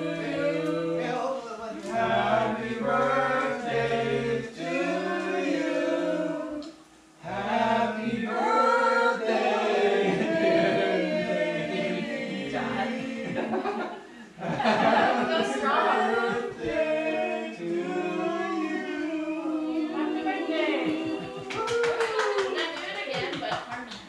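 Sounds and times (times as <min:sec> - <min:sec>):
group singing held notes: 0:00.0 - 0:21.6.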